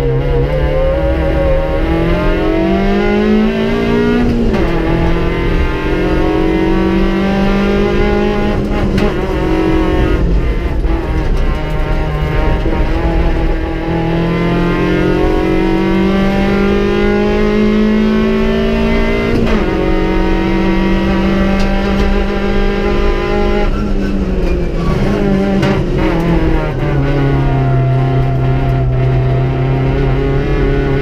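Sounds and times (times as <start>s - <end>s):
car engine revving from inside: 0.0s - 31.0s.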